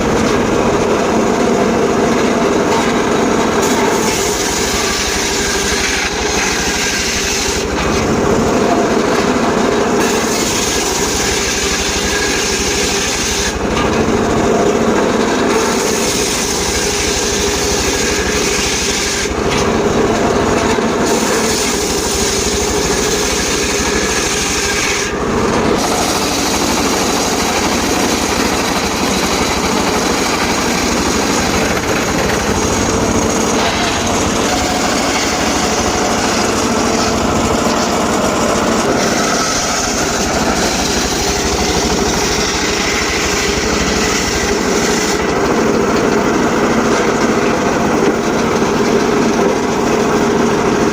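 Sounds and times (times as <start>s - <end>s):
circular saw cutting wood: 0.0s - 50.9s
engine hum: 0.0s - 50.9s.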